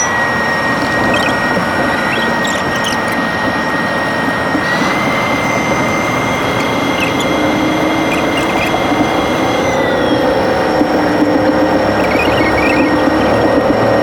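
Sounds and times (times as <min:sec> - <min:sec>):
high engine whine: 0:00.0 - 0:14.0
jet engines roaring at takeoff: 0:00.0 - 0:14.0.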